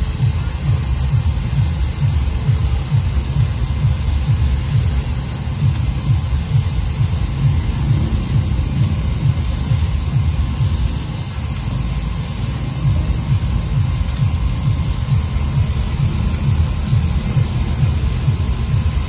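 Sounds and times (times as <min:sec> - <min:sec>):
cutter hiss: 0:00.0 - 0:19.0
engraving machine motor rumble: 0:00.0 - 0:19.0.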